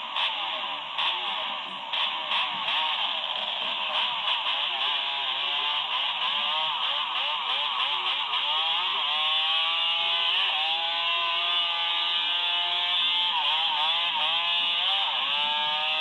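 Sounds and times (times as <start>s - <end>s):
two-stroke engine revving hard: 0.0s - 16.0s.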